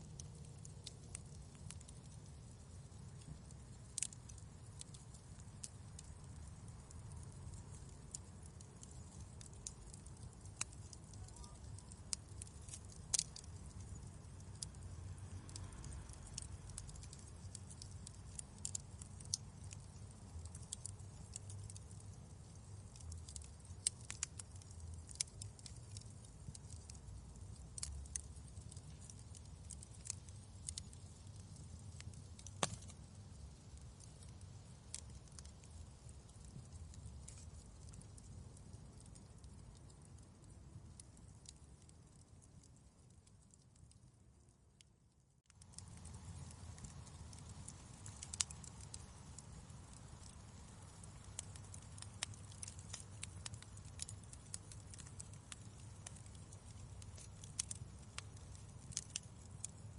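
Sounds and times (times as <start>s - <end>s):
low rumble of flames: 0.0s - 59.9s
wood fire crackling: 0.0s - 59.9s.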